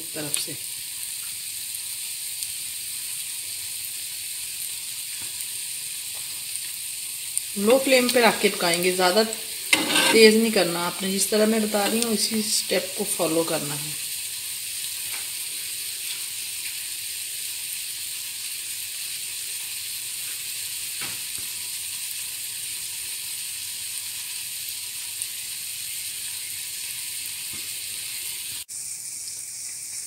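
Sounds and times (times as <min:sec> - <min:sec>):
bread sizzling in a frying pan: 0:00.0 - 0:30.0.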